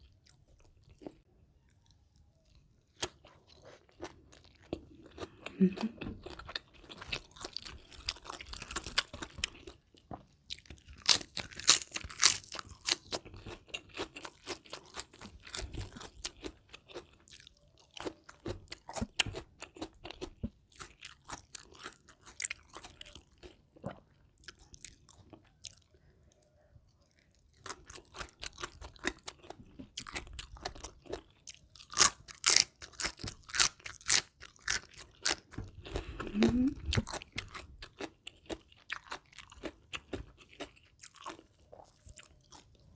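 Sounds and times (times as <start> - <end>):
crunching and chewing crisp food: 0.0 - 42.9.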